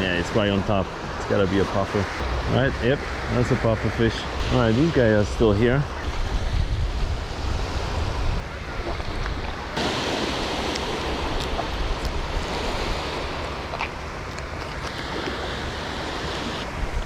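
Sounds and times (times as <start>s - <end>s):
surf washing onto beach: 0.0s - 17.0s
wind rumbling on microphone: 0.0s - 17.0s.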